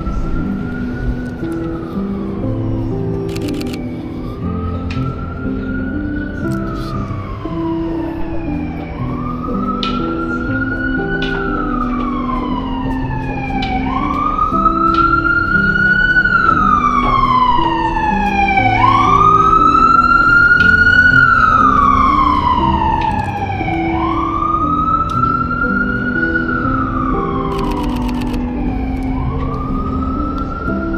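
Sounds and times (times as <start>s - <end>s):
emergency vehicle siren wailing: 0.0s - 30.9s.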